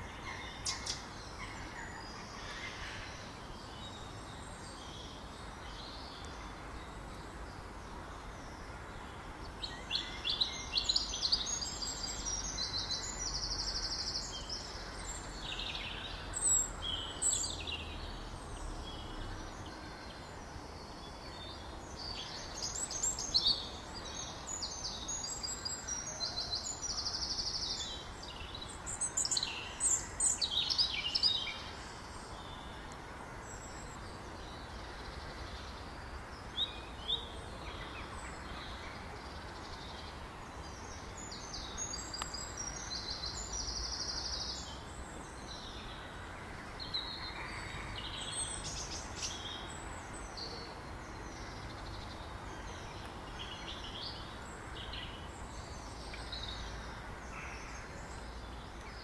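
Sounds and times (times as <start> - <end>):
songbird chirps and trills: 0.0 - 59.0.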